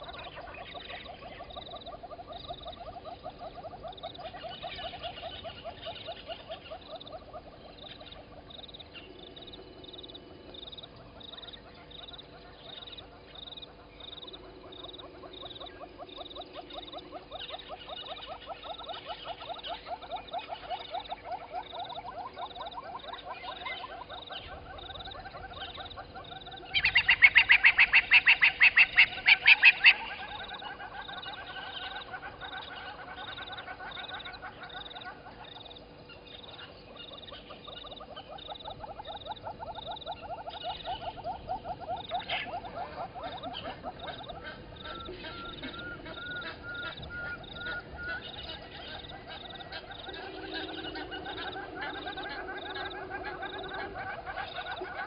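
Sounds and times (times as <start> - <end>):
frogs trilling: 0.0 - 55.0
loud high pulsed frog call: 0.0 - 55.0.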